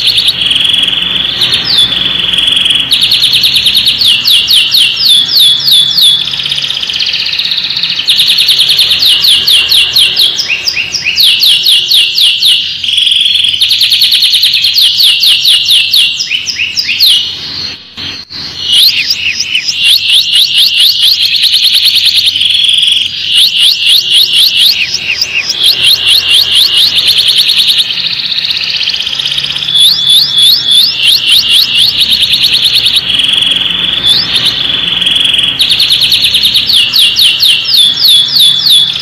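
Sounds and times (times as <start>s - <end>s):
canary singing trills and chirps: 0.0s - 39.0s.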